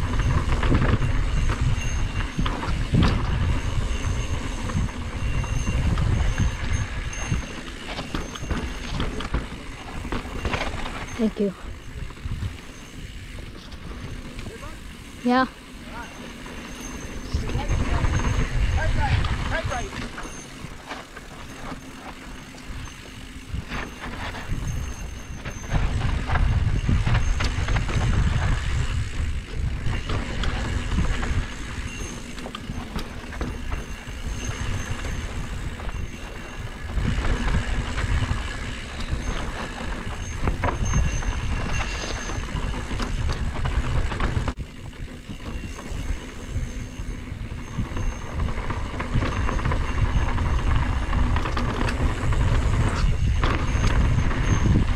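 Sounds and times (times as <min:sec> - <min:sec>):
bike clicks and rattles: 0:00.0 - 0:54.9
tyres rolling over dirt: 0:00.0 - 0:54.9
wind buffeting microphone: 0:00.0 - 0:54.9.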